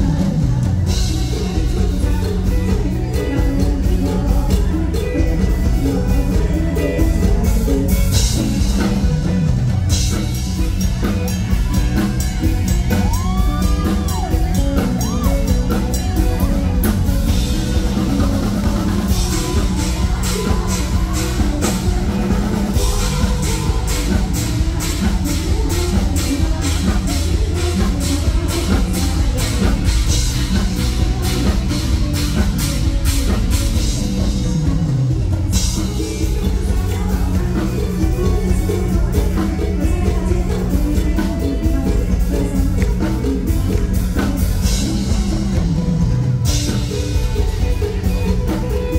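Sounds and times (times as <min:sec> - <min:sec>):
woman singing: 0:00.0 - 0:09.4, 0:12.7 - 0:32.6, 0:35.4 - 0:45.8
drum kit steady beat: 0:00.0 - 0:48.9
heavy bass: 0:00.0 - 0:48.9
live band playing: 0:00.0 - 0:48.9.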